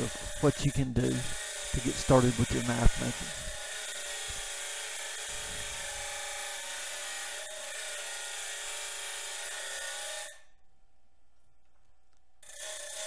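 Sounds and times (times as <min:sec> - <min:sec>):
cutoff wheel grinding steel: 0:00.0 - 0:10.4, 0:12.4 - 0:13.0.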